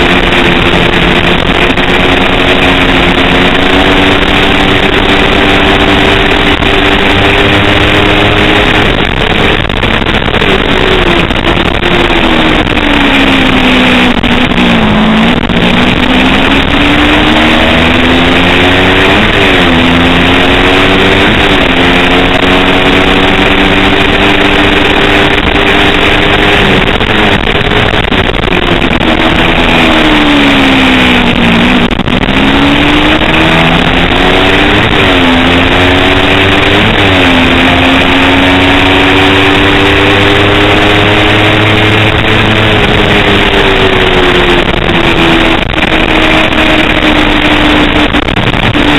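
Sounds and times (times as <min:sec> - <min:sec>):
motorcycle engine at high revs: 0:00.0 - 0:48.9
wind and road noise: 0:00.0 - 0:48.9.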